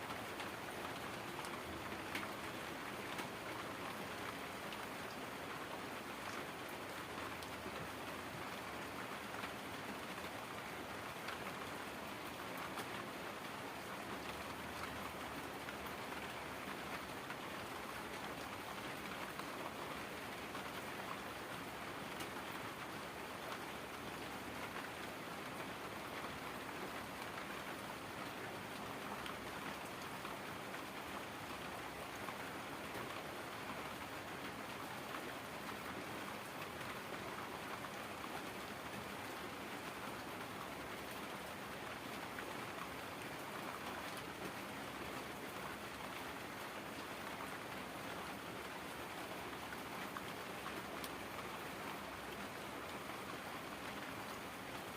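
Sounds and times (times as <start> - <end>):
heavy rain falling: 0.1 - 54.9.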